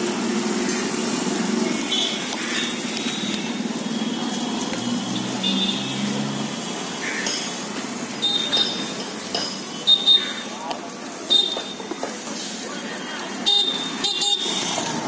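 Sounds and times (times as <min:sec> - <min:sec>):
vehicle engines droning: 0:00.0 - 0:15.0.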